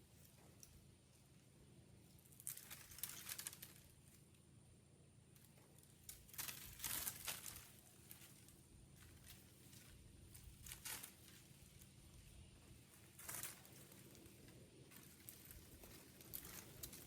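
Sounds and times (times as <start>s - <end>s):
faint rustling and crackling: 0.0s - 17.0s
low steady hum: 0.0s - 17.0s.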